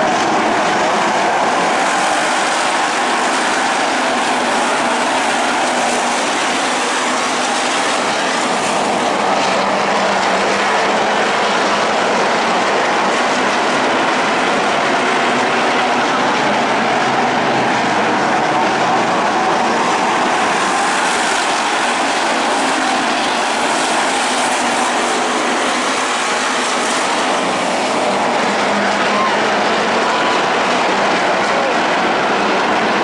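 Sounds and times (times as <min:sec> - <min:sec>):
race car engines droning: 0:00.0 - 0:33.0.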